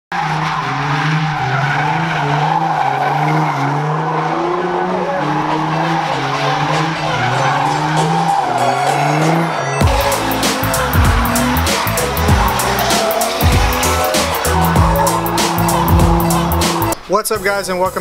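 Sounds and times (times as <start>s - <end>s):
car engine revving: 0.1s - 17.0s
tyres squealing: 0.2s - 17.0s.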